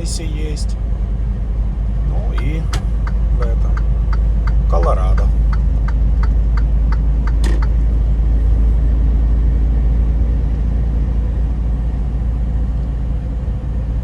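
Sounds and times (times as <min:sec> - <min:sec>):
truck engine and road drone: 0:00.0 - 0:14.0.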